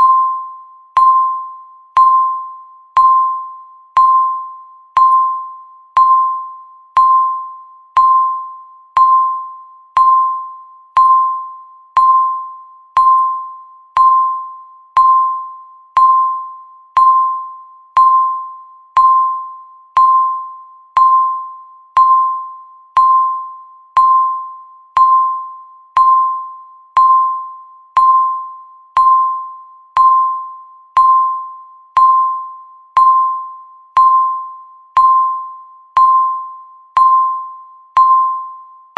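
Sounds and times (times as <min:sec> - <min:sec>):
electronic timer beeps: 0:00.0 - 0:38.9.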